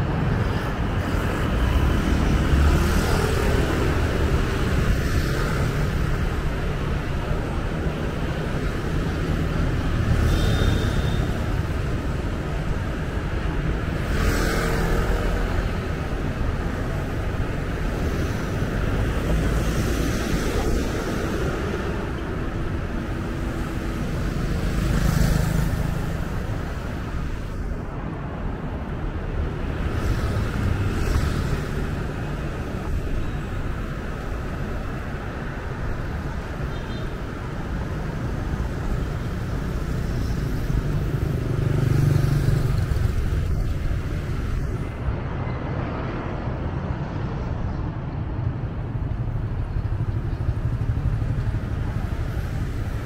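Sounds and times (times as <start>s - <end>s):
passing cars and motorbikes: 0.0s - 53.0s
vehicle engine and tyre rumble: 0.0s - 53.0s.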